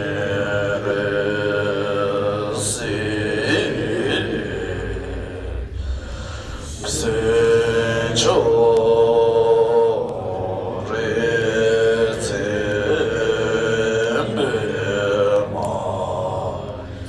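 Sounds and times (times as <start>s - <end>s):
man chanting in long tones: 0.0s - 17.0s.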